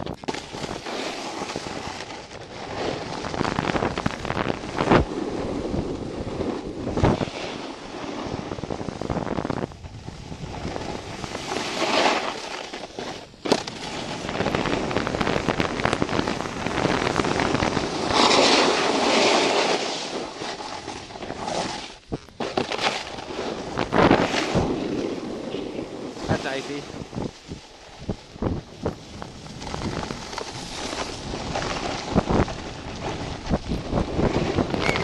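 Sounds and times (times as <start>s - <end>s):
wind on microphone: 0.0s - 12.3s, 13.2s - 35.0s
snowboard carving over snow: 0.0s - 35.0s.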